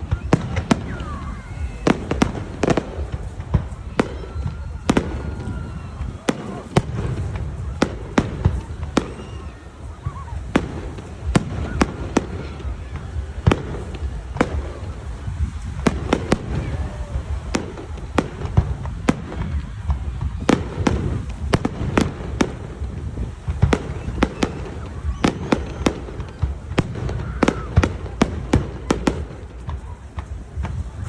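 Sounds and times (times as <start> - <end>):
fireworks bursting bangs: 0.0 - 31.0.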